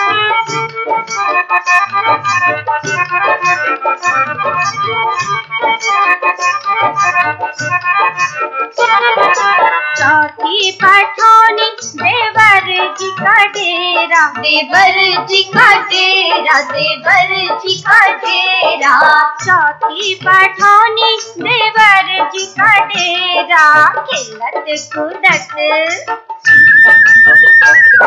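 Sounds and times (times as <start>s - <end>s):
folk song with ornamented melody: 0.0s - 28.0s.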